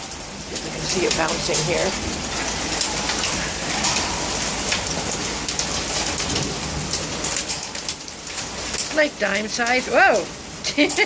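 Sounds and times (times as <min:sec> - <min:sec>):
hailstones striking surfaces: 0:00.0 - 0:11.0
heavy rain hissing: 0:00.0 - 0:11.0.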